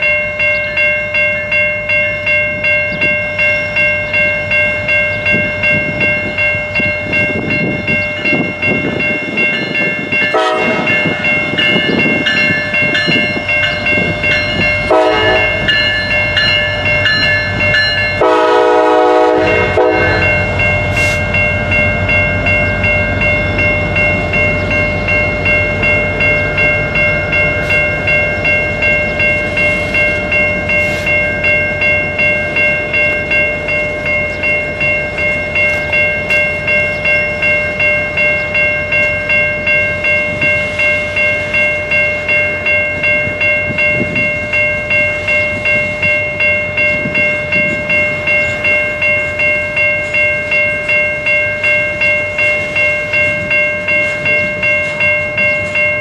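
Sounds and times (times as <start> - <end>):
locomotive bell ringing: 0.0 - 56.0.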